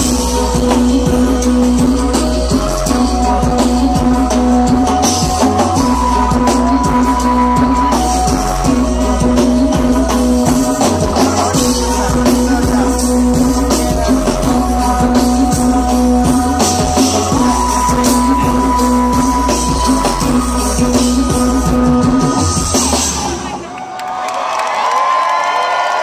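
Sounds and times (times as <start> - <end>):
drum kit and hand percussion: 0.0 - 24.0.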